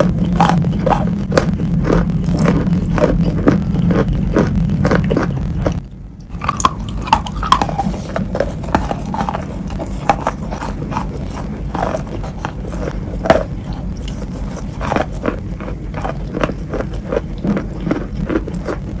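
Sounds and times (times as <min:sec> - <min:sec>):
low hum: 0:00.0 - 0:19.0
moist crunching chews: 0:00.0 - 0:19.0.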